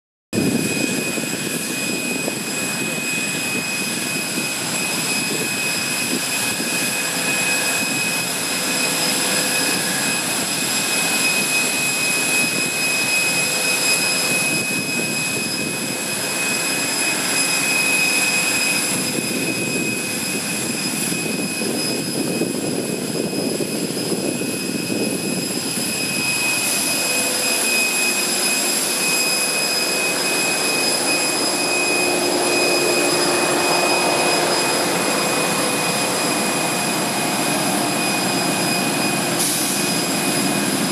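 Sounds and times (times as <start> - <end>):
auxiliary power unit jet whine: 0.4 - 40.9.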